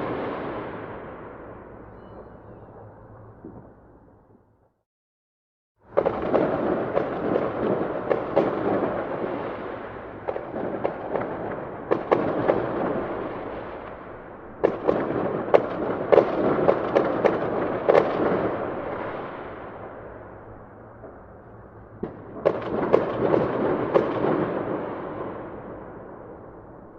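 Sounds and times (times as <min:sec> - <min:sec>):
fireworks crackling and banging: 0:00.0 - 0:04.5, 0:05.9 - 0:26.9.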